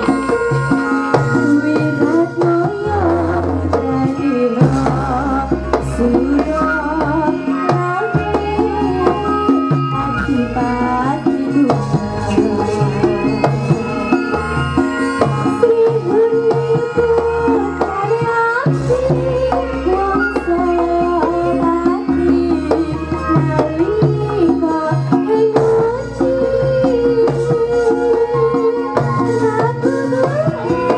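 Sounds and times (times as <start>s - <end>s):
gamelan music: 0.0s - 30.9s
woman singing: 0.0s - 30.9s.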